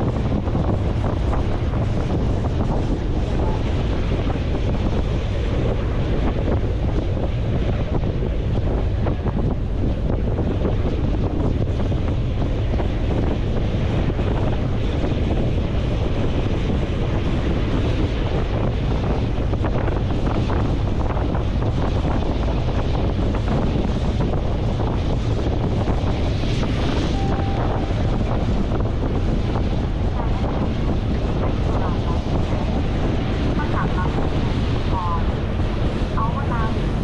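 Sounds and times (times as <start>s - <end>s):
boat rushing across sea: 0.0s - 37.0s
wind buffeting microphone: 0.0s - 37.0s.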